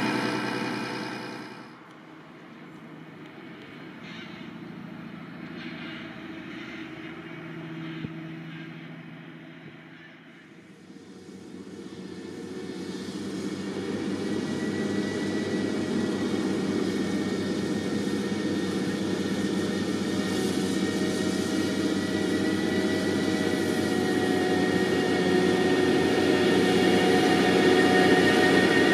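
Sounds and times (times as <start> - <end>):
diesel engine running under load: 0.0 - 28.9
high whine: 0.0 - 28.9.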